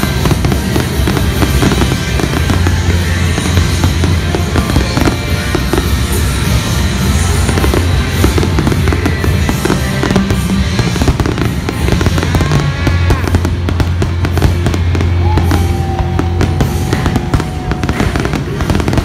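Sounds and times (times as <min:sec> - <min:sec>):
fireworks bangs and crackling: 0:00.0 - 0:19.0
music playing: 0:00.0 - 0:19.0.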